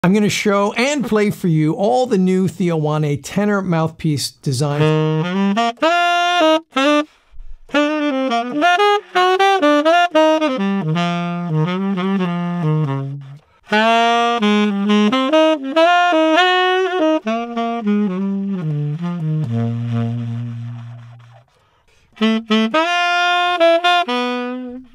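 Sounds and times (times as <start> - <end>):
tenor saxophone playing: 4.6 - 24.9.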